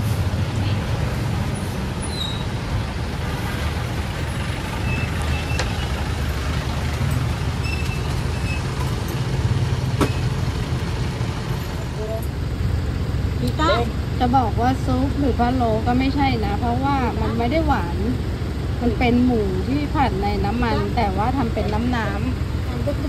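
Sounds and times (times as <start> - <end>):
traffic engine rumble: 0.0 - 23.0
truck passing close: 0.0 - 23.0.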